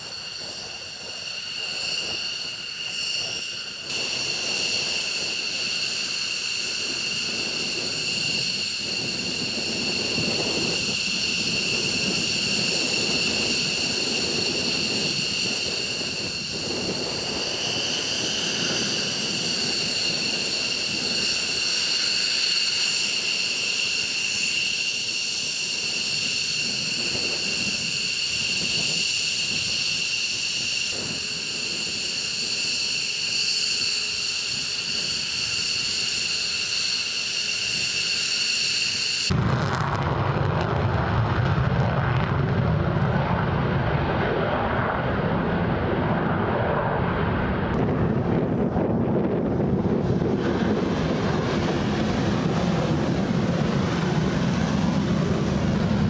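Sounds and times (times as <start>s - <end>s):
jet engine turbine whine: 0.0s - 56.0s.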